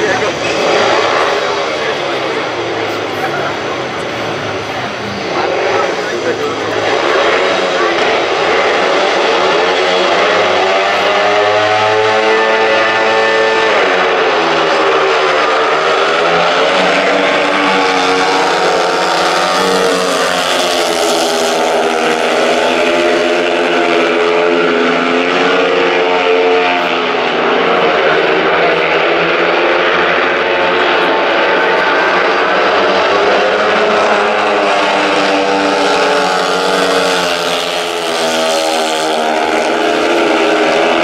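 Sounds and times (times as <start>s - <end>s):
motorbike engines racing: 0.0s - 41.0s.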